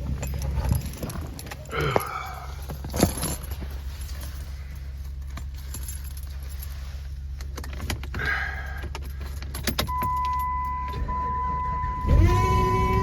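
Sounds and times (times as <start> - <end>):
keys jangling: 0.0 - 11.0
vehicle engine idling: 0.0 - 13.0.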